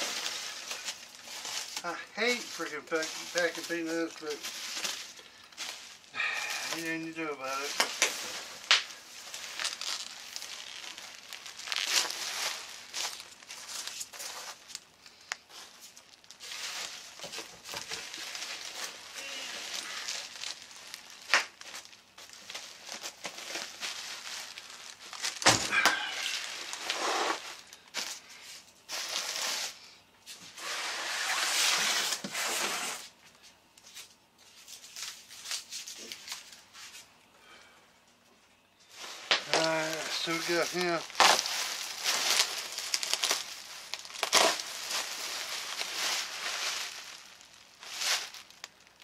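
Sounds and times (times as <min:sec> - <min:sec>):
packing peanuts rustling: 0:00.0 - 0:29.8, 0:38.9 - 0:49.0
bubble wrap crinkling: 0:00.0 - 0:37.2, 0:38.8 - 0:49.0.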